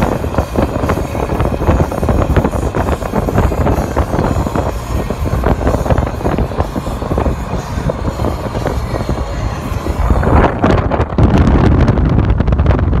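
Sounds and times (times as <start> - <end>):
car rumbling on road: 0.0 - 13.0
wind buffeting microphone: 0.0 - 13.0.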